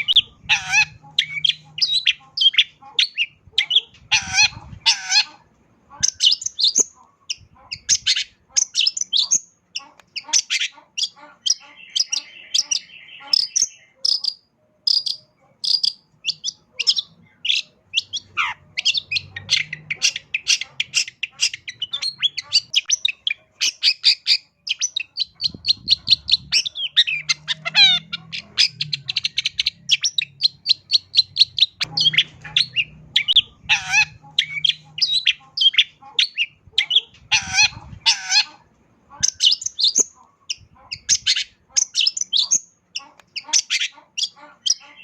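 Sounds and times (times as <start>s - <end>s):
bird singing varied song: 0.0s - 45.0s.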